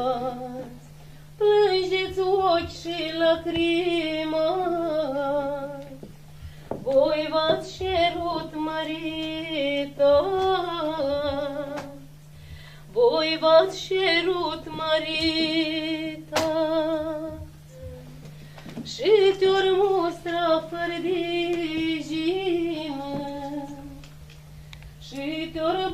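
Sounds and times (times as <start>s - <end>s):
woman singing unaccompanied: 0.0s - 6.1s, 6.8s - 12.2s, 12.9s - 18.2s, 18.8s - 24.1s, 25.0s - 25.9s.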